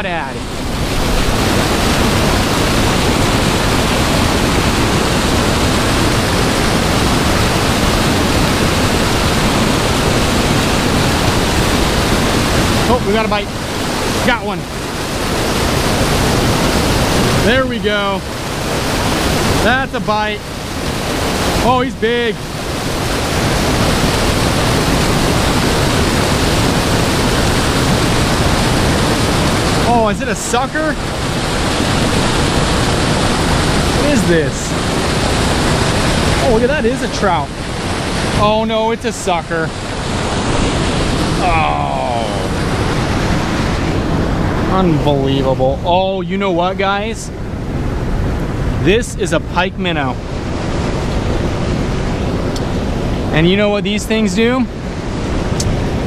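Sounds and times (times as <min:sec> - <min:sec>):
rushing turbulent water: 0:00.0 - 0:56.0.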